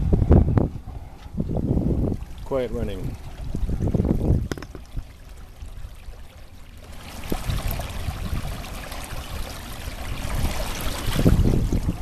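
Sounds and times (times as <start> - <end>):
water trickling and splashing: 1.3 - 12.0.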